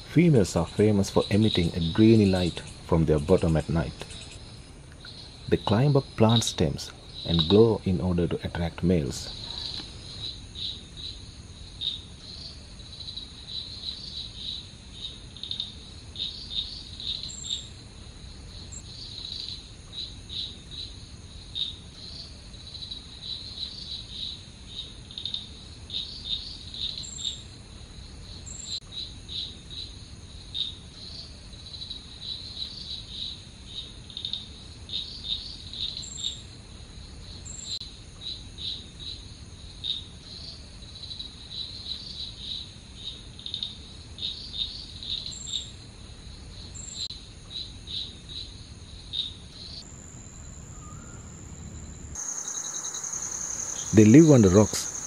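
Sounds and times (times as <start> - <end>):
crickets chirping: 0.0 - 55.0
high-pitched insect trill: 0.0 - 55.0.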